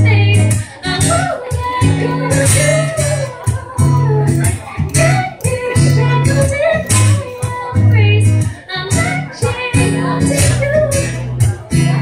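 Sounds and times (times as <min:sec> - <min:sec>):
electric guitar strumming chords: 0:00.0 - 0:12.0
woman singing into microphone: 0:00.0 - 0:12.0.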